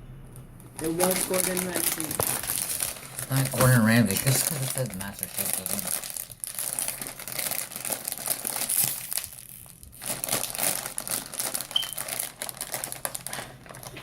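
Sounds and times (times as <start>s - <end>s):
snack bag crinkling: 0.6s - 14.0s.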